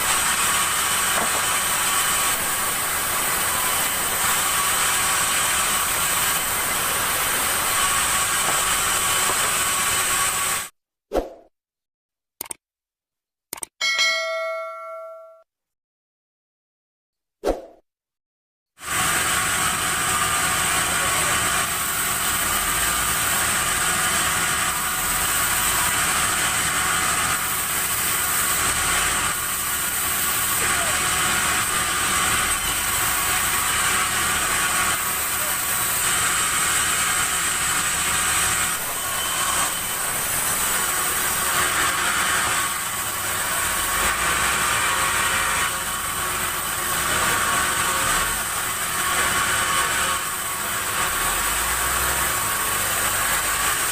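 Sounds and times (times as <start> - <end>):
engine hum: 0.0 - 10.7, 18.8 - 53.9
saw cutting log hiss and whine: 0.0 - 10.7, 18.8 - 53.9.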